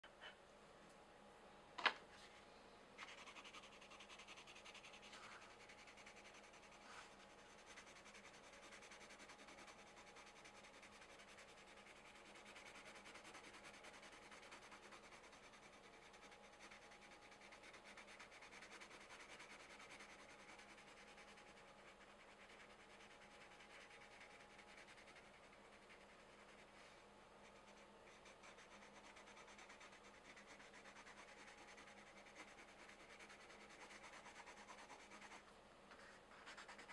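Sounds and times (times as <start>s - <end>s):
pencils scratching on paper: 3.0s - 36.9s.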